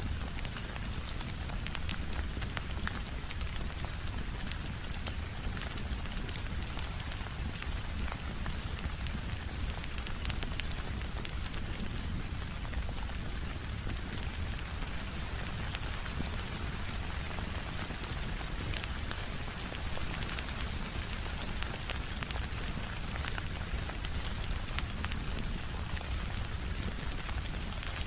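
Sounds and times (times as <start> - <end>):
rain on a window: 0.0 - 28.0
wood fire crackling: 0.0 - 28.0.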